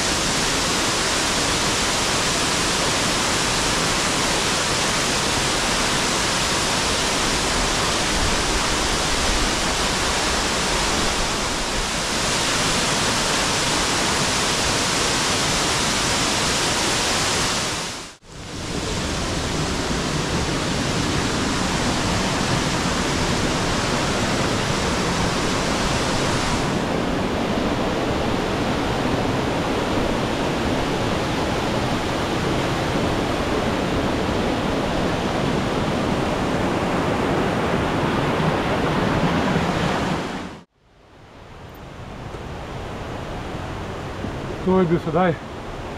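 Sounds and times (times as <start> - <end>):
waterfall pouring heavily: 0.0 - 40.7.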